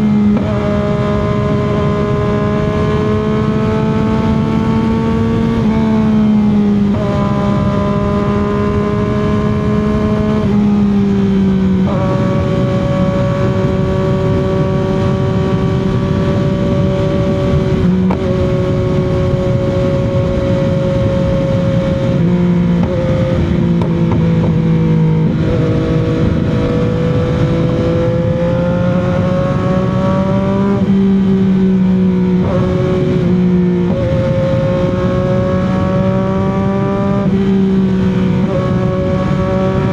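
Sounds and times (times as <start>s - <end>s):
motorcycle engine at speed: 0.0s - 39.9s
road and wind noise: 0.0s - 39.9s.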